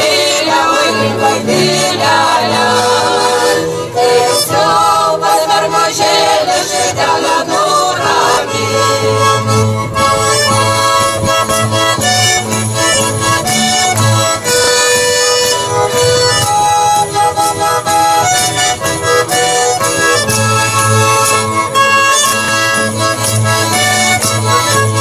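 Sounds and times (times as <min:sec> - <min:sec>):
button accordion: 0:00.0 - 0:25.0
double bass: 0:00.0 - 0:25.0
folk chorus singing: 0:00.0 - 0:25.0.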